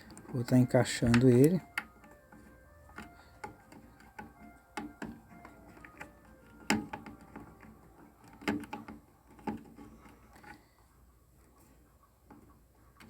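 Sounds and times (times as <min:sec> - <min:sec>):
parts being handled: 0:00.0 - 0:13.0.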